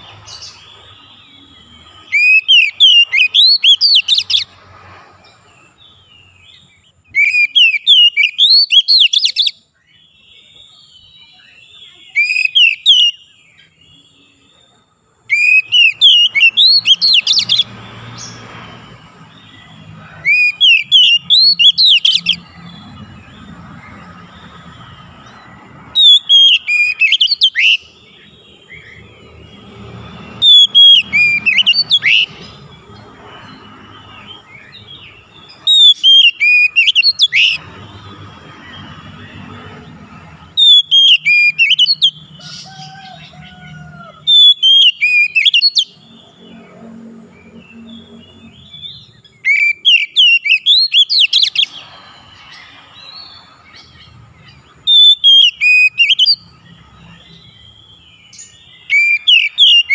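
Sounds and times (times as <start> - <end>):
bird singing whistled notes: 0.0 - 4.5, 5.5 - 37.6, 38.6 - 46.7, 47.4 - 59.9.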